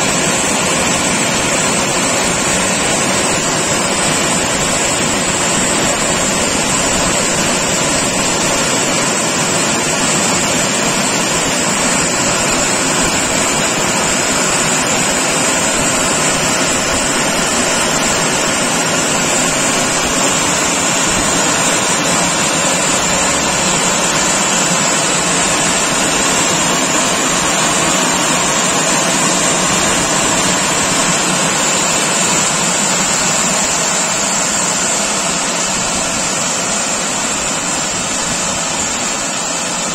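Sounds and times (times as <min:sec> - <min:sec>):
car wash drying blowers: 0:00.0 - 0:39.9.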